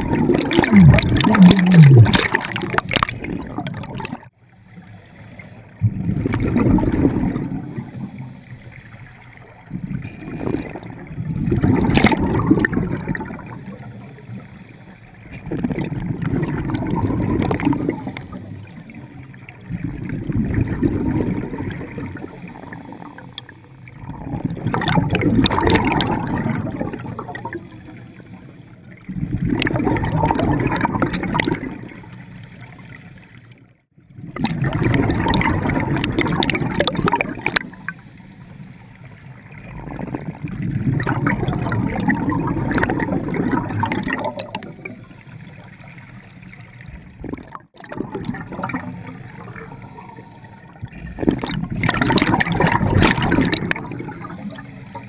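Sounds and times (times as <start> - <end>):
underwater regulator exhaust bubbles: 0.0 - 4.4, 5.3 - 33.0, 34.2 - 38.1, 39.4 - 45.9, 46.8 - 55.0.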